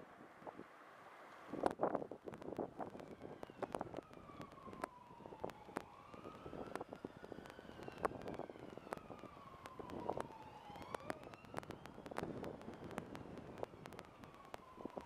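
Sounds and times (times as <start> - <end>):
sharp clicks and crackles: 1.3 - 15.0
siren wailing: 2.8 - 15.0.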